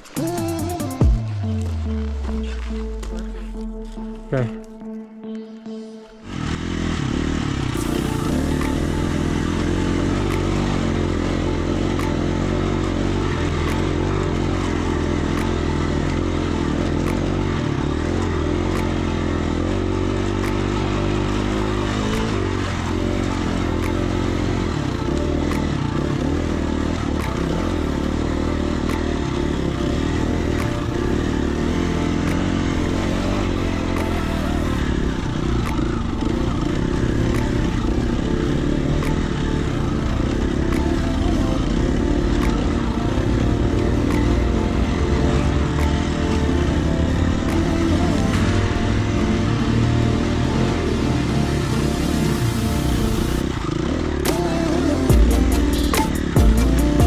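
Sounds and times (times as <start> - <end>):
dirt bike engine running: 6.3 - 57.0.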